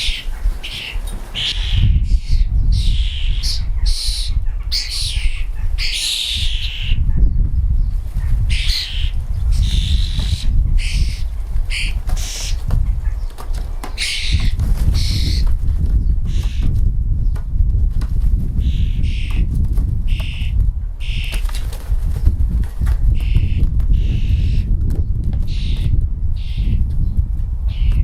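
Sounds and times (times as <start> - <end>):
birds squawking and chirping: 0.0 - 17.4, 18.6 - 28.0.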